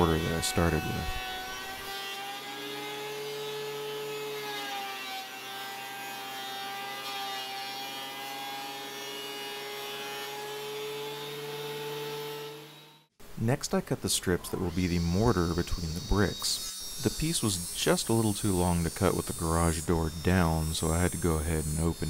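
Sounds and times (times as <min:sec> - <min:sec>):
thickness planer humming: 0:00.0 - 0:13.0, 0:14.6 - 0:22.0.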